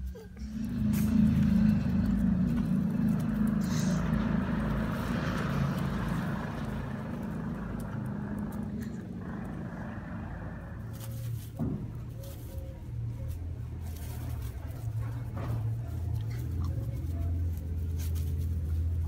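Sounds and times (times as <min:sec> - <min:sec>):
low motor rumble and hum: 0:00.0 - 0:19.0.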